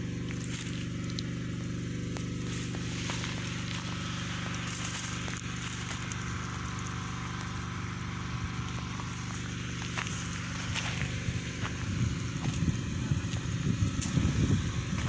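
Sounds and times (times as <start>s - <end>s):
generator engine humming: 0.0s - 15.0s.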